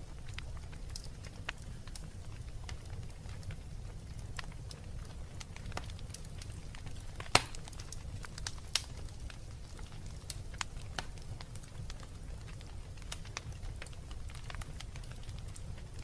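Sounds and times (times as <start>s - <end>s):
wood fire crackling: 0.0s - 16.0s
loud fire pops: 0.1s - 16.0s.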